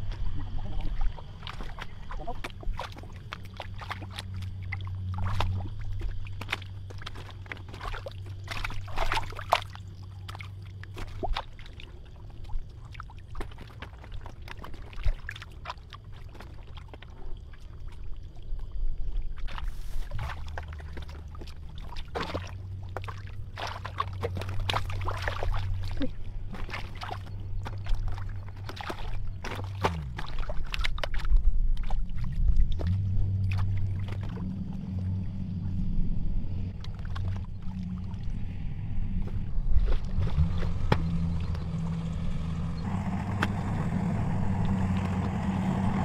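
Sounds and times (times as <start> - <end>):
low steady hum: 0.0 - 46.0
splashing in muddy water: 0.0 - 46.0.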